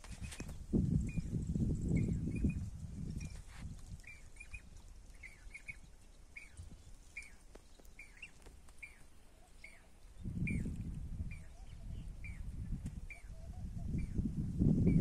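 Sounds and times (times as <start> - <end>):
small bird chirping: 0.1 - 15.0.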